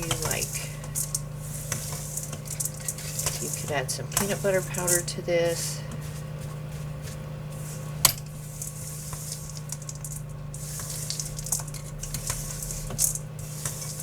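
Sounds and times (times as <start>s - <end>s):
granola stirred in a bowl: 0.0s - 14.0s.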